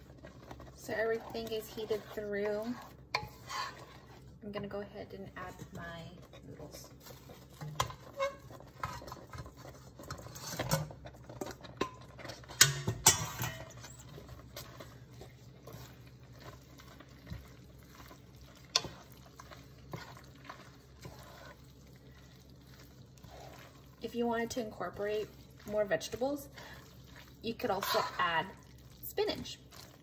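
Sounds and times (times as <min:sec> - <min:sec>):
wet stirring and squishing: 0:00.0 - 0:30.0.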